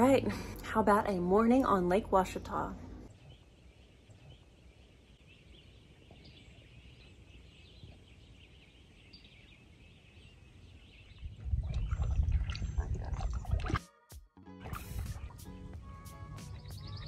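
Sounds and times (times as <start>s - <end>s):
faint distant birds chirping: 0.0s - 13.2s, 14.8s - 17.0s.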